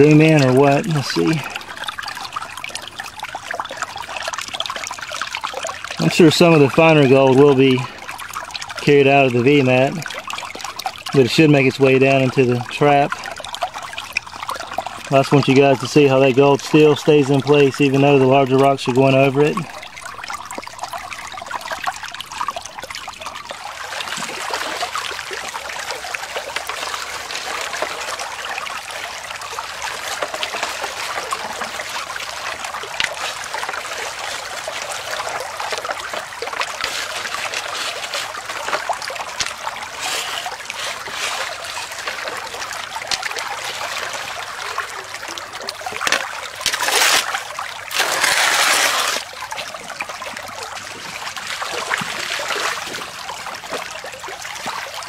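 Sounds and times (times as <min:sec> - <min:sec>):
gravel splashing into water: 0:00.0 - 0:55.0
water running through sluice: 0:00.0 - 0:55.0.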